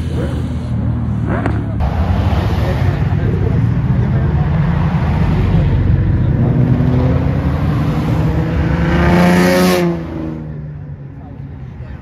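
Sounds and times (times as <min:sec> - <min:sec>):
car engine revving: 0:00.0 - 0:10.8
cars accelerating past: 0:00.0 - 0:10.9.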